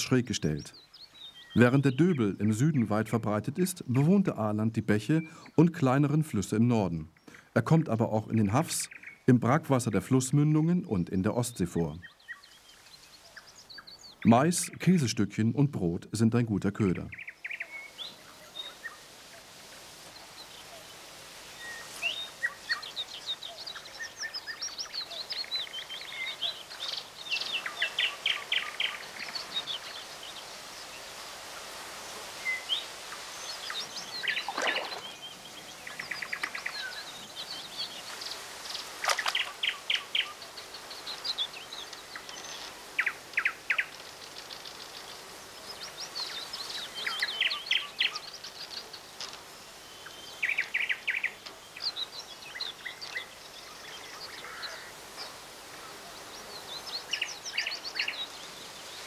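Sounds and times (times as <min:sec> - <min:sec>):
faint outdoor hiss: 0:00.0 - 0:59.0
songbirds chirping and trilling: 0:00.0 - 0:59.0.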